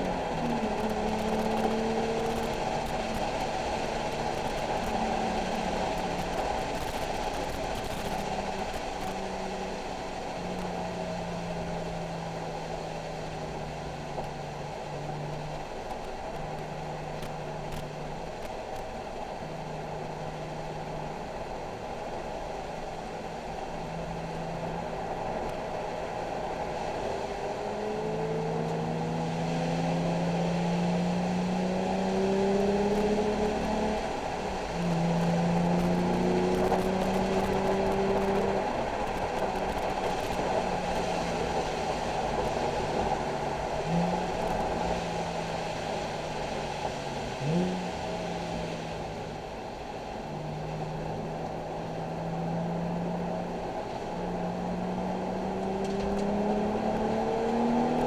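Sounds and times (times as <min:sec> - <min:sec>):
car engine running: 0:00.0 - 0:58.0
road and tyre noise: 0:00.0 - 0:58.0.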